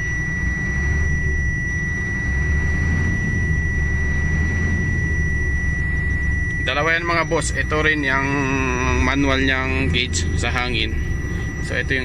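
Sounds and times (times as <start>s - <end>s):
diesel engine running: 0.0s - 12.0s
high-pitched whine: 0.0s - 12.0s.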